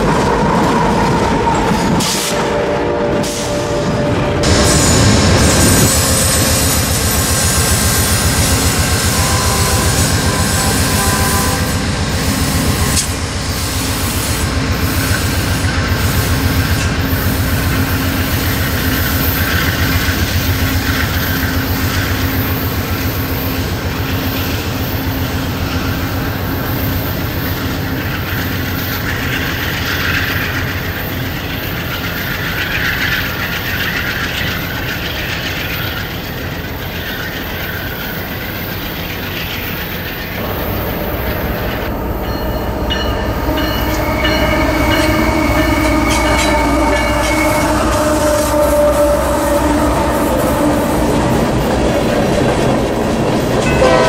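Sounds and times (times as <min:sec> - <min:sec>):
train rumbling on track: 0:00.0 - 0:54.0
train wheels clicking: 0:04.4 - 0:54.0.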